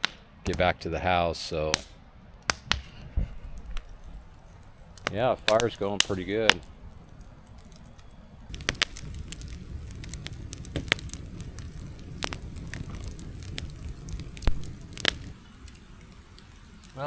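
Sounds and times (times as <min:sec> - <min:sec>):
campfire crackling and popping: 0:00.0 - 0:17.0
fire low rumble: 0:02.4 - 0:17.0.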